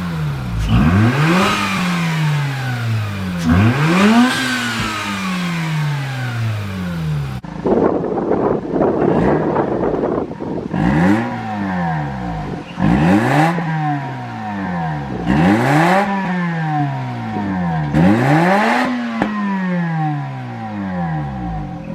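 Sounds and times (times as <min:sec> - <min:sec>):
rotary engine revving: 0:00.0 - 0:08.0, 0:08.8 - 0:21.9.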